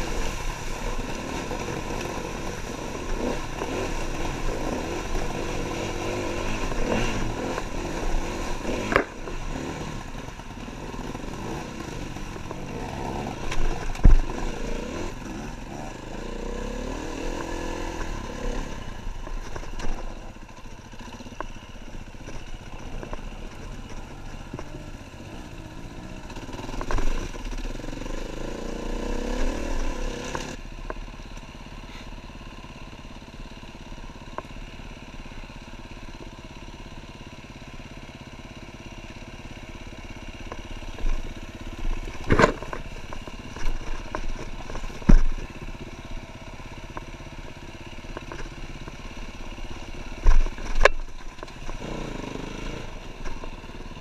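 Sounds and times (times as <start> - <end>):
motorcycle engine under throttle: 0.0 - 54.0.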